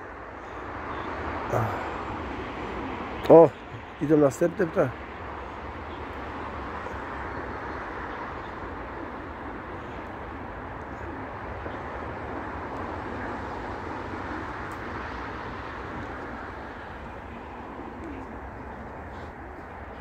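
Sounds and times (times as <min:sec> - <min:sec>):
pigeons cooing: 0:00.0 - 0:04.0, 0:05.4 - 0:20.0
steady background rush: 0:00.0 - 0:20.0.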